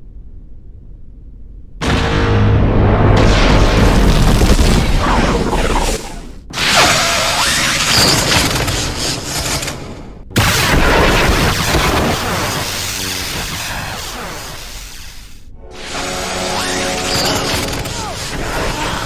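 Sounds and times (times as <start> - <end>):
booming whooshing sci-fi effects: 1.8 - 8.6, 10.4 - 19.0.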